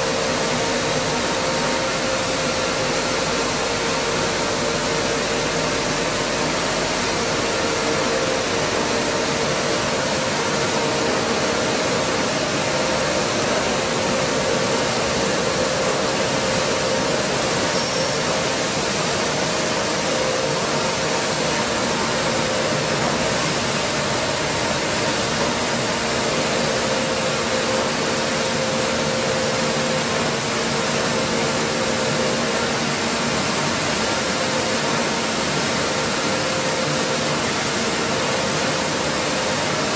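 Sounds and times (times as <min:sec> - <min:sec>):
stone flour mills running: 0:00.0 - 0:39.9.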